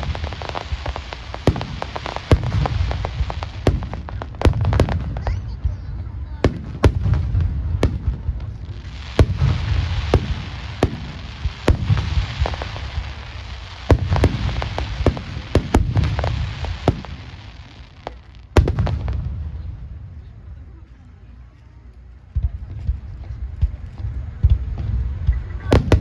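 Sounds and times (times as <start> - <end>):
fireworks bursting: 0.0 - 21.2, 22.3 - 26.0
fireworks crackling: 0.0 - 26.0.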